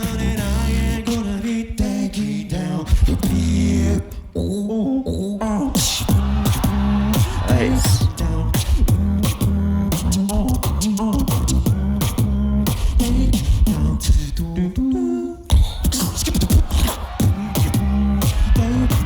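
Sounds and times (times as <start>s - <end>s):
beatbox bass and drum sounds: 0.0s - 19.0s.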